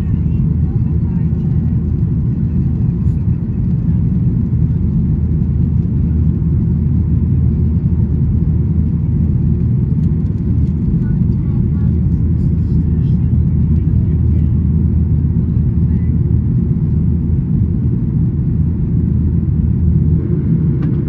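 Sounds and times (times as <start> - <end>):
jet engine low rumble: 0.0 - 21.0.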